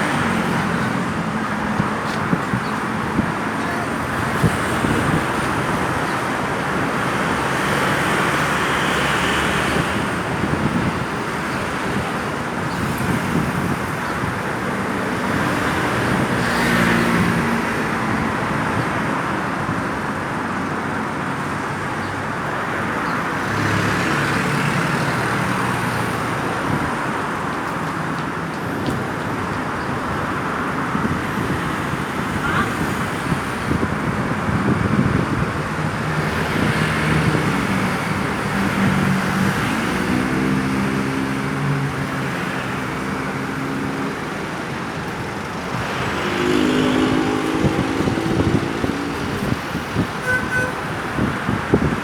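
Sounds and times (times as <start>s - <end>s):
road traffic: 0.0s - 52.0s.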